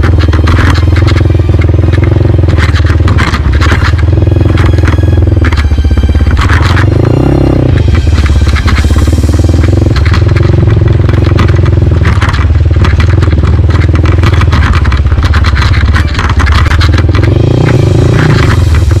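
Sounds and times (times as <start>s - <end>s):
motorcycle engine running: 0.0s - 19.0s
stones clattering under tyres: 0.0s - 19.0s.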